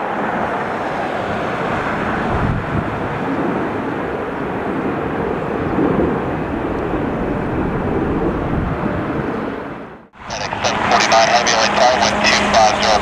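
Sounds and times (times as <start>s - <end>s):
airliner jet engines roaring: 0.0s - 13.0s.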